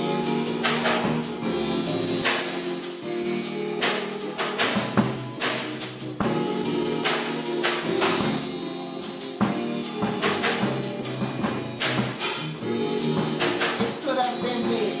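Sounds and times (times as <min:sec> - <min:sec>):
drum kit played with sticks: 0:00.0 - 0:15.0
low bass notes: 0:00.0 - 0:15.0.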